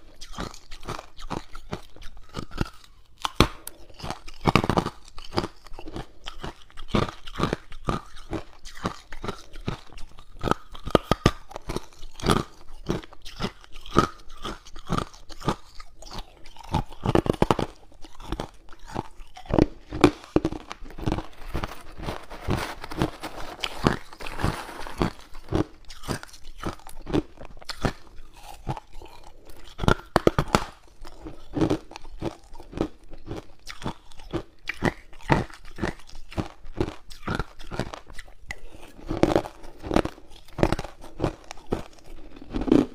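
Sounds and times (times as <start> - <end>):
ice cubes crunching: 0.2 - 42.9.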